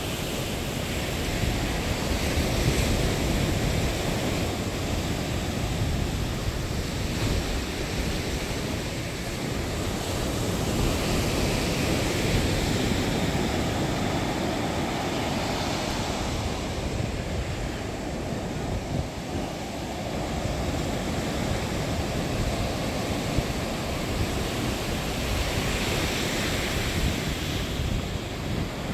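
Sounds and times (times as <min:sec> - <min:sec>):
ocean surf breaking on beach: 0:00.0 - 0:28.9
wind rumbling on microphone: 0:00.0 - 0:28.9.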